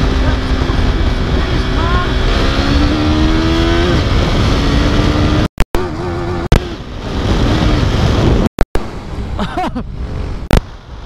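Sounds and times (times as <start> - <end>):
motorcycle engine running: 0.0 - 9.3
wind rushing over microphone: 0.0 - 11.0.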